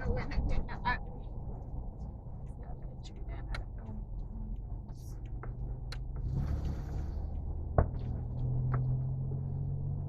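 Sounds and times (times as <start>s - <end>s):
truck engine humming: 0.0s - 10.0s.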